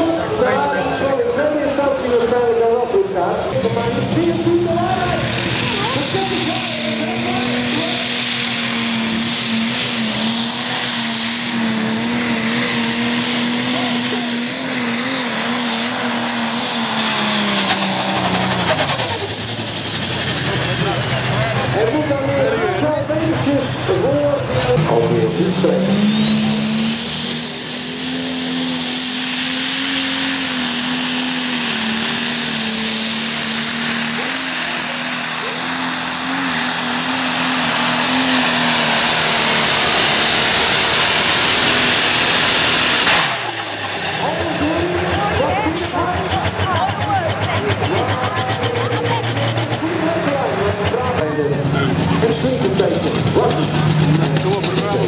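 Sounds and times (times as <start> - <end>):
tractor diesel engine at full load: 0.0 - 55.0.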